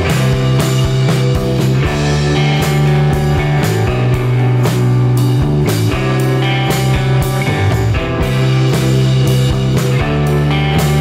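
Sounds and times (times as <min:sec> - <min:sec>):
rock music with drums and guitar: 0:00.0 - 0:11.0.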